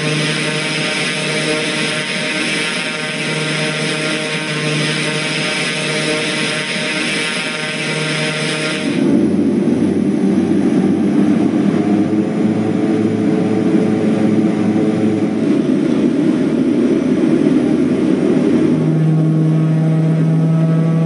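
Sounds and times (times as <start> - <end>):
muffled turboprop engine drone: 0.0 - 21.0.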